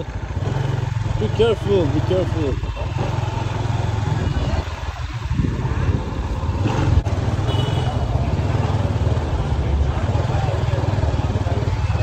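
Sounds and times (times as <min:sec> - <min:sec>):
motorbike engine rumble: 0:00.0 - 0:12.0.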